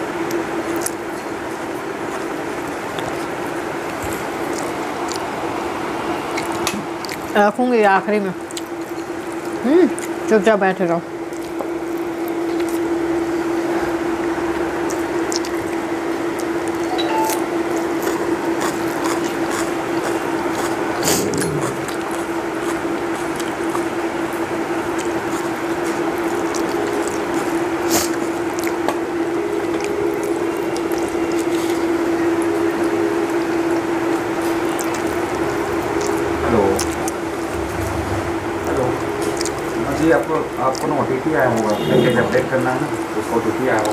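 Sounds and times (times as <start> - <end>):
steady hum: 0.0 - 43.9
chewing: 0.1 - 5.6, 6.2 - 7.6, 8.4 - 10.3, 11.2 - 43.9.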